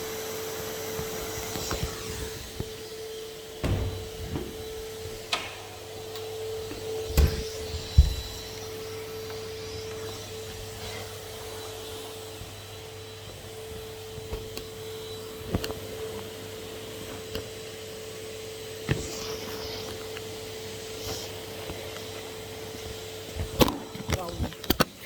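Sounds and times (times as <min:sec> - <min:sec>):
vacuum cleaner whine: 0:00.0 - 0:25.0.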